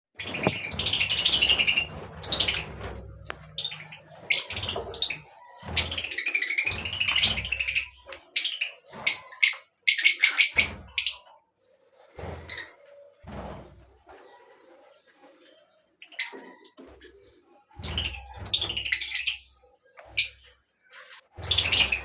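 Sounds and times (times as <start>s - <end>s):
birds chirping and calling: 0.2s - 13.3s, 14.1s - 22.0s.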